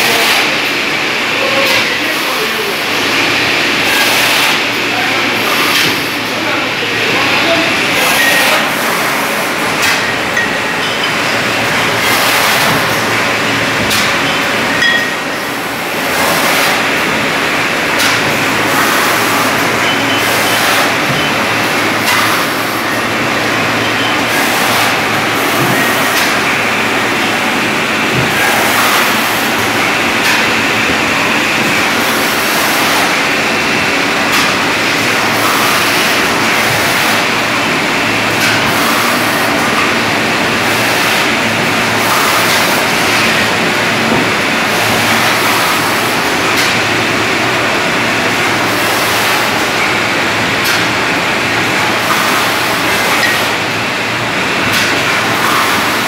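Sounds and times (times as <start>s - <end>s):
bottling machine noise: 0.0s - 56.0s.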